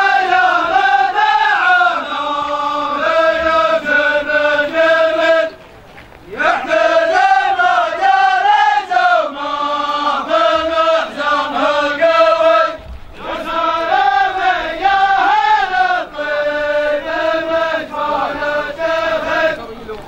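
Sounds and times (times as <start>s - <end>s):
men chanting: 0.0s - 5.6s, 6.2s - 19.9s.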